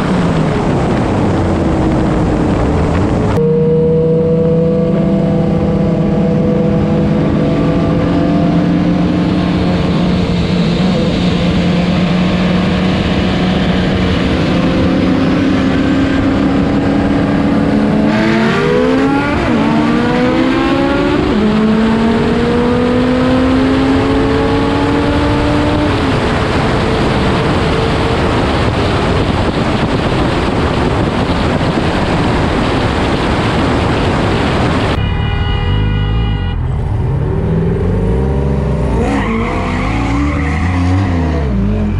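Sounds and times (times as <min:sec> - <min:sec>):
car engine accelerating: 0:00.0 - 0:35.0
wind and road noise: 0:00.0 - 0:41.9.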